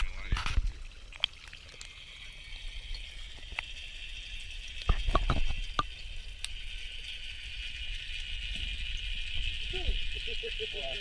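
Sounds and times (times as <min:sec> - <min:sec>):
muffled underwater hiss: 0:00.0 - 0:11.0.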